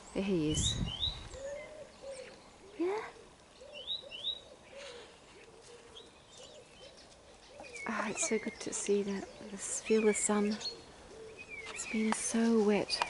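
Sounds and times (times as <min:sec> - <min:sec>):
small bird chirping: 0:00.1 - 0:13.0.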